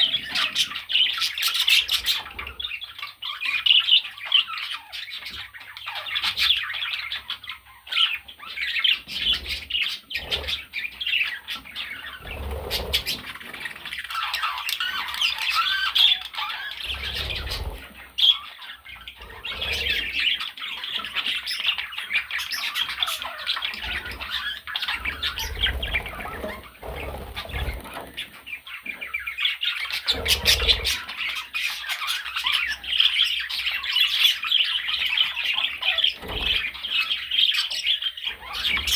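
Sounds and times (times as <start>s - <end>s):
budgies chattering and squawking: 0.0s - 38.9s.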